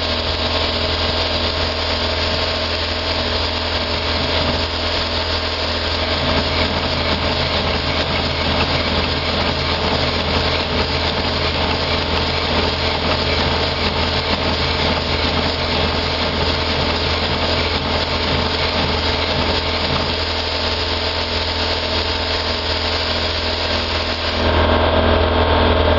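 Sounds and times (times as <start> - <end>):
model locomotive wheels turning: 0.0 - 24.6
air rushing and hissing: 0.0 - 25.9
steady low hum: 0.0 - 25.9.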